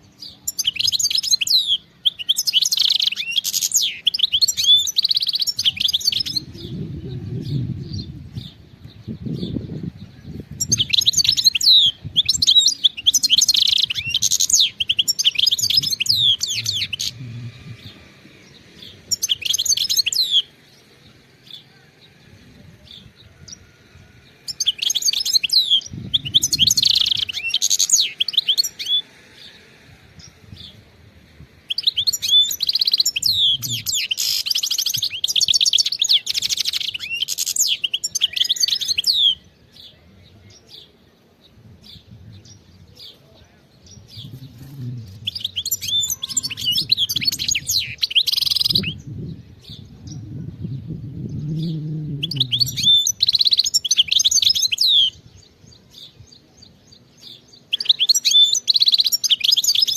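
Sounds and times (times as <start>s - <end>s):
bird twittering and trilling: 0.0s - 59.9s.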